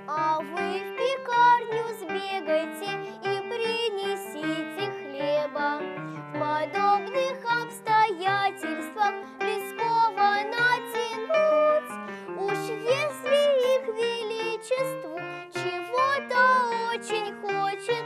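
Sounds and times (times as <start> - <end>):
girl singing: 0.0 - 18.0
piano accompaniment: 0.0 - 18.0.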